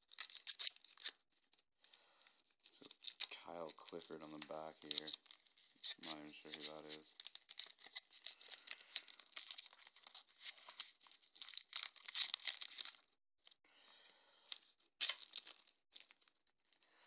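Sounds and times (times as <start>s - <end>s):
plastic wrapper crinkling: 0.0s - 1.6s, 2.6s - 13.2s, 14.5s - 16.5s.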